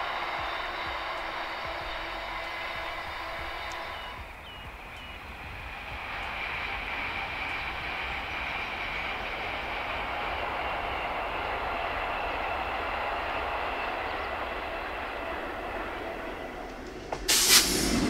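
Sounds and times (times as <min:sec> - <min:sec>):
distant train passing: 0:00.0 - 0:18.0.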